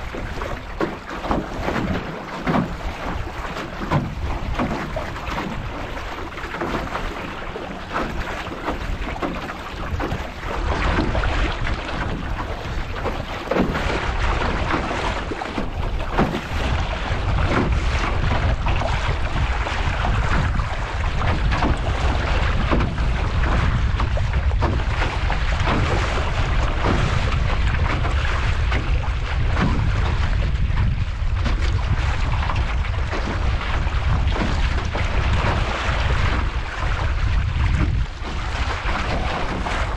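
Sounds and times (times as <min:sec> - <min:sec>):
short splashes: 0:00.0 - 0:39.9
water slapping metal hull: 0:00.0 - 0:39.9
wind buffeting microphone: 0:00.0 - 0:39.9.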